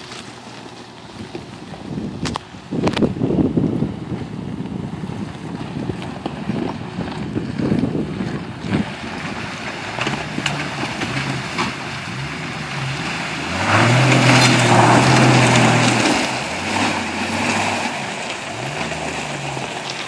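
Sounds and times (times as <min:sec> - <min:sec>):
car engine running: 0:00.0 - 0:20.0
wind buffeting microphone: 0:01.0 - 0:19.5.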